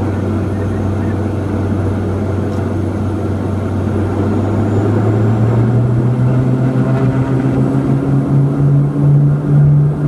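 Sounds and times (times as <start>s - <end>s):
turboprop propeller drone: 0.0s - 10.0s.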